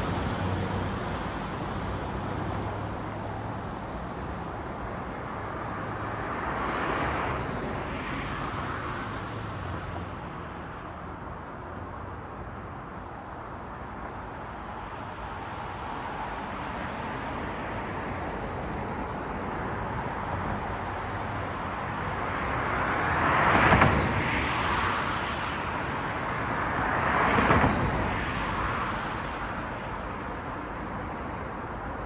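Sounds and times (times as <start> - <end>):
road traffic hum: 0.0 - 32.0.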